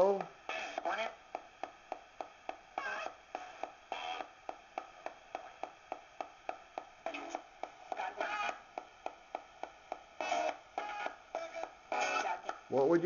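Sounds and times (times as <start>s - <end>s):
radio static: 0.0s - 1.8s, 2.4s - 5.9s, 7.0s - 13.0s
radio clicking between stations: 0.0s - 12.7s
snatches of broadcast sound: 0.0s - 13.0s.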